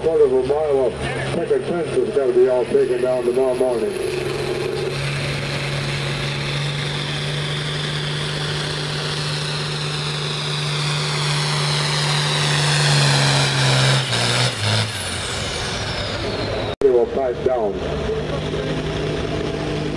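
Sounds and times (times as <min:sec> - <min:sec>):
tractor diesel engine under load: 0:00.0 - 0:19.9.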